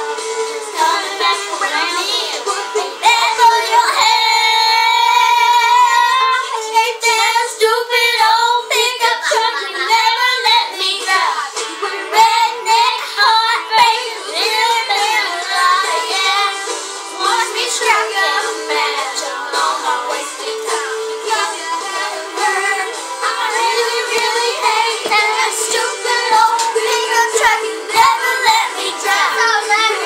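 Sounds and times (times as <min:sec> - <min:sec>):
girls singing country-pop song: 0:00.0 - 0:30.0.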